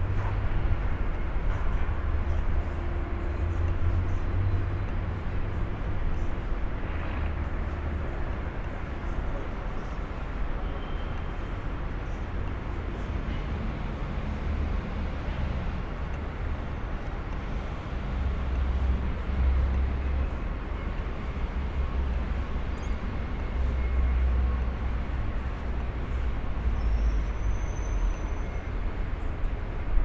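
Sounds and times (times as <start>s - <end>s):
distant city traffic: 0.0s - 30.0s.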